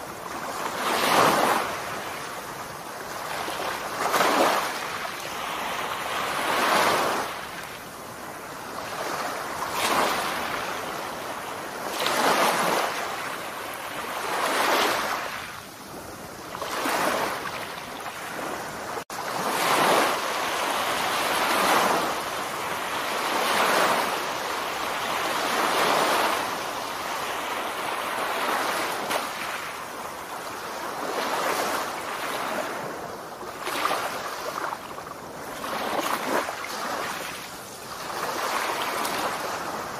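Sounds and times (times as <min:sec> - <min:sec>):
surf washing onto beach: 0:00.0 - 0:39.9.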